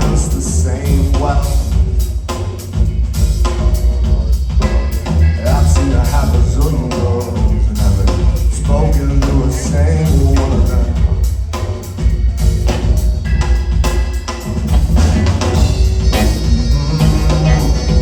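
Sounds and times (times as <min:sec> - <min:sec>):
bass line: 0:00.0 - 0:18.0
drum kit groove: 0:00.0 - 0:18.0
rock band playing: 0:00.0 - 0:18.0.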